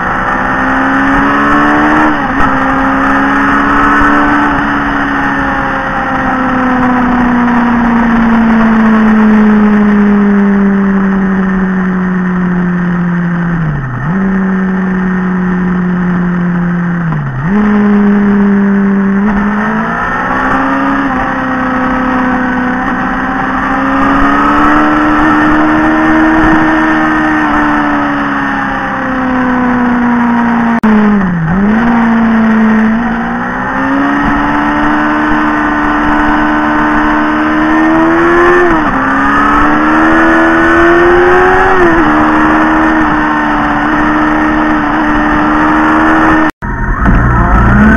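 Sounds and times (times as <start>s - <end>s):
motorcycle engine running: 0.0s - 47.9s
road noise: 0.0s - 47.9s.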